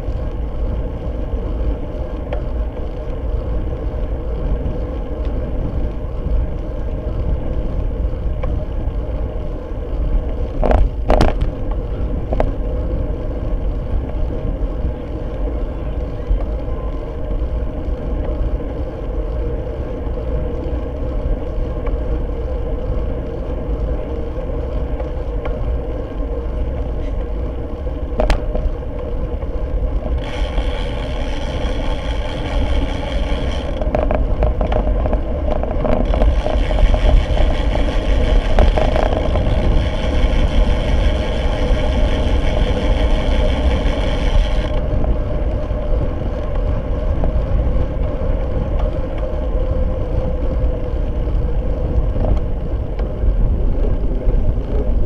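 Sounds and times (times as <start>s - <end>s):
steady buzz with overtones: 0.0s - 55.0s
wind rush and road rumble: 0.0s - 55.0s.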